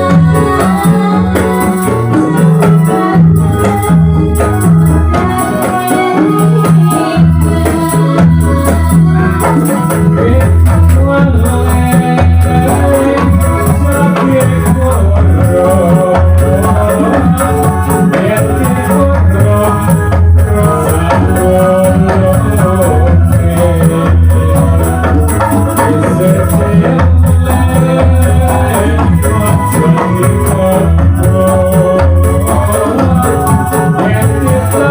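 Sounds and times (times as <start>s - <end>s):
jingling percussion: 0.0s - 34.9s
keyboard melody: 0.0s - 34.9s
steady drum beat: 0.0s - 34.9s.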